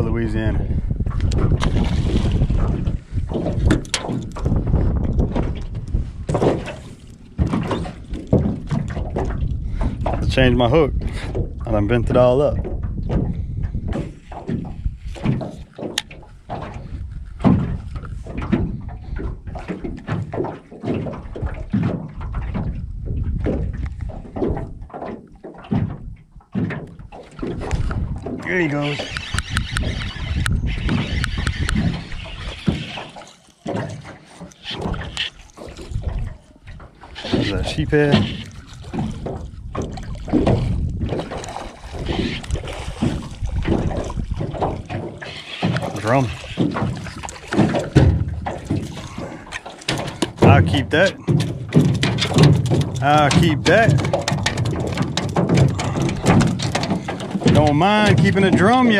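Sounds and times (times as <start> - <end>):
wind rumble on microphone: 0.0 - 33.1, 33.7 - 58.9
water lapping and splashing: 0.0 - 58.9
waves slapping boat hull: 0.0 - 58.9
fish thrashing at water surface: 1.2 - 10.2, 13.9 - 58.9.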